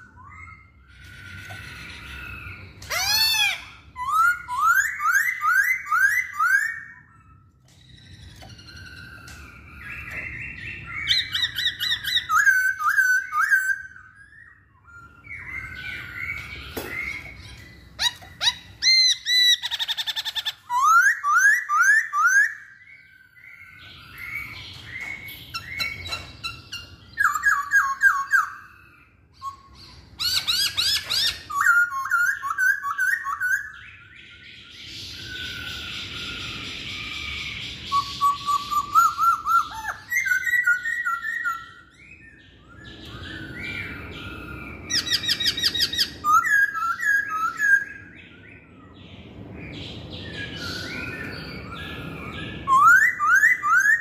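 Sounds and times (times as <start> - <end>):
bird singing whistled phrases: 0.0 - 49.0, 50.0 - 54.0.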